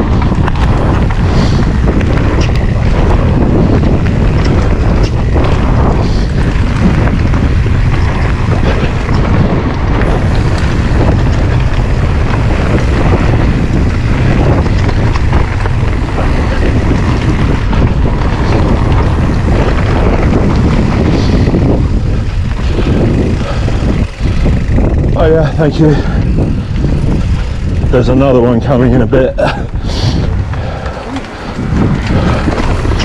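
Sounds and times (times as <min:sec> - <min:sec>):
bike rattling: 0:00.0 - 0:33.0
low rumble of bike ride: 0:00.0 - 0:33.0
wind buffeting microphone: 0:00.0 - 0:33.0.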